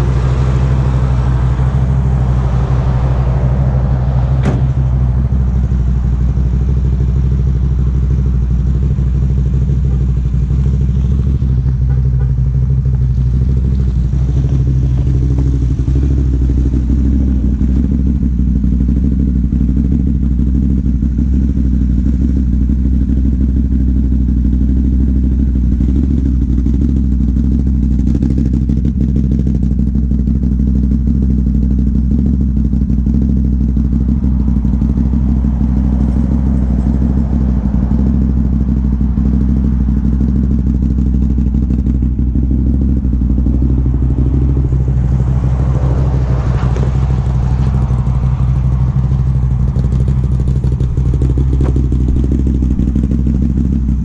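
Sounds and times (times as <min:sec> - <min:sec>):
vehicle engine running steadily: 0:00.0 - 0:54.0.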